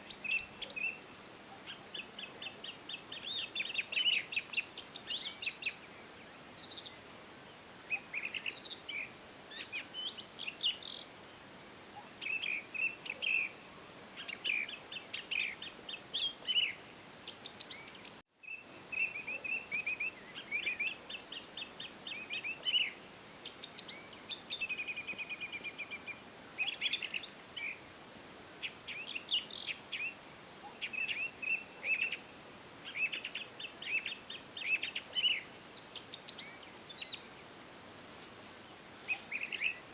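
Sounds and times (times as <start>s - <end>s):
songbirds chirping and trilling: 0.0s - 27.9s, 28.5s - 37.8s, 38.4s - 39.9s
faint background hiss: 0.0s - 39.9s.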